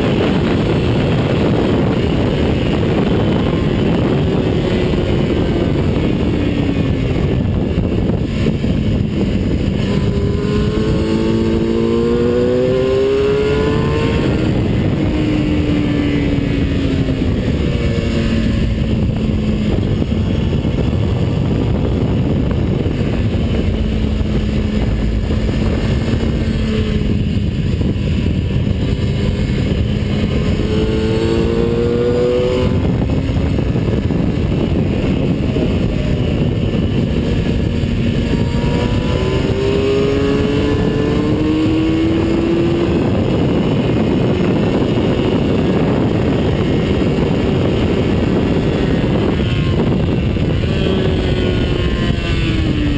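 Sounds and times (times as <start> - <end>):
race car engine at speed: 0.0 - 52.9
wind rumble: 0.0 - 52.9.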